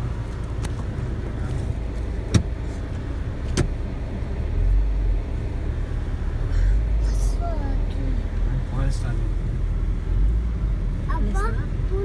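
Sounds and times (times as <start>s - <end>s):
car driving rumble inside cabin: 0.0s - 12.0s.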